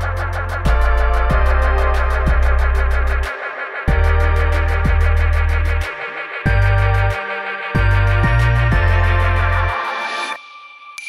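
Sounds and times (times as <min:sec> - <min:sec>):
electronic music with heavy bass: 0:00.0 - 0:10.4.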